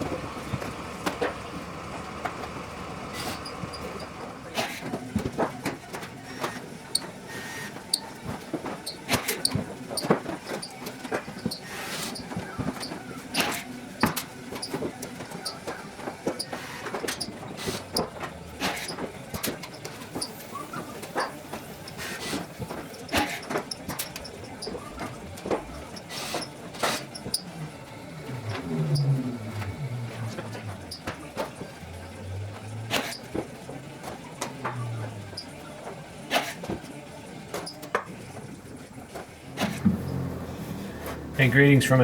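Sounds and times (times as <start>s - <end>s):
steady background hum: 0.0s - 11.4s, 12.0s - 42.0s.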